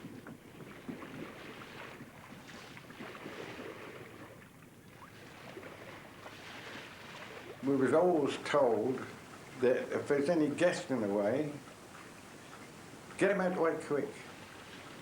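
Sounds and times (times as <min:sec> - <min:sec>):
faint wind: 0:00.0 - 0:15.0
yacht moving through water: 0:00.0 - 0:15.0.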